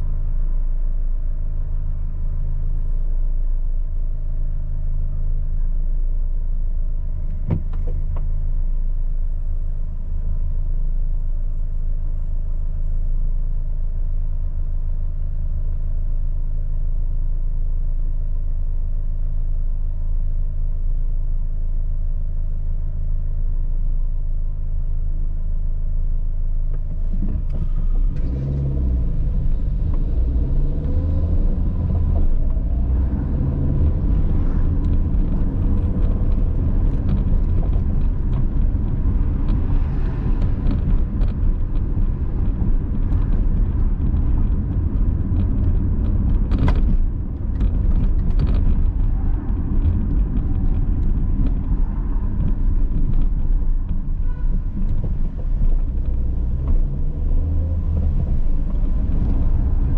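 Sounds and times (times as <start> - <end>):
car engine idling and accelerating: 0.0 - 59.9
tyre road noise: 0.0 - 59.9.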